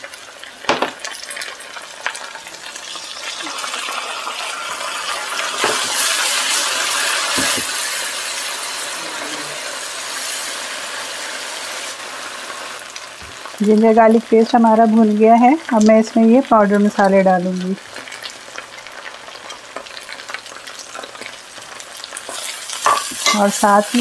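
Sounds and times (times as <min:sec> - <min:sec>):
onions frying in hot oil: 0:00.0 - 0:24.0.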